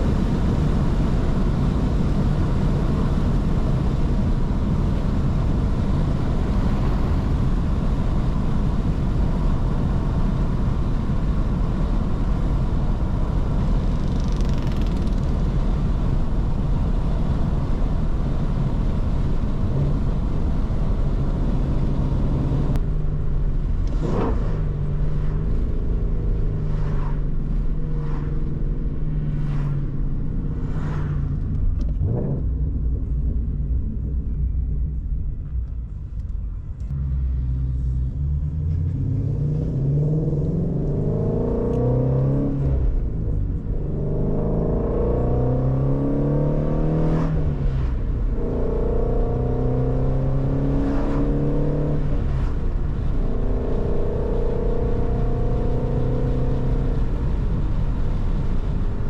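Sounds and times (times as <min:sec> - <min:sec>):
car engine running while driving: 0:00.0 - 0:59.0
road and wind noise: 0:00.0 - 0:59.0.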